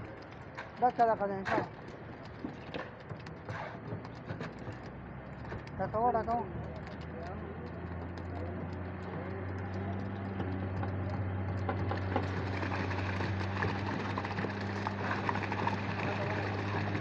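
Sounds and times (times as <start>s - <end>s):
pump engine humming: 0.0s - 17.0s
wet concrete splattering: 0.0s - 17.0s.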